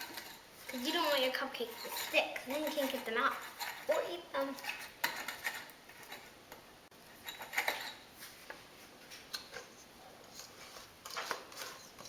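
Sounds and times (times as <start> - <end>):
utensils scraping bakeware: 0.0 - 6.4, 7.1 - 8.6, 9.2 - 12.0.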